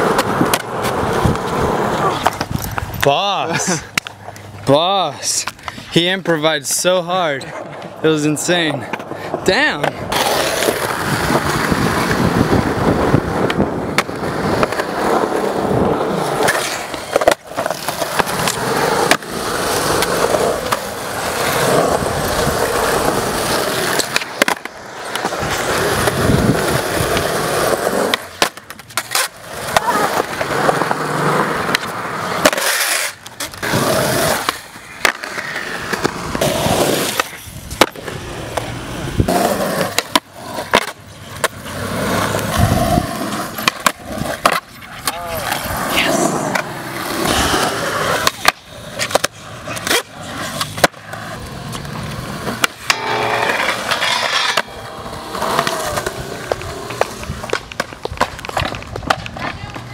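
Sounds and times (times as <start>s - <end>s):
skateboard clacks: 0.0s - 3.1s, 8.8s - 59.9s
skateboard wheels rolling on concrete: 0.0s - 59.9s.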